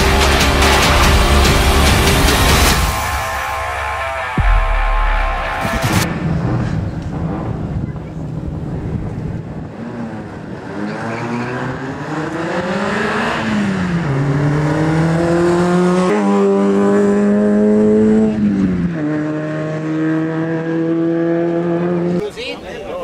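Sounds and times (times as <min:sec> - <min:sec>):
race car engine at full throttle: 0:00.0 - 0:22.2.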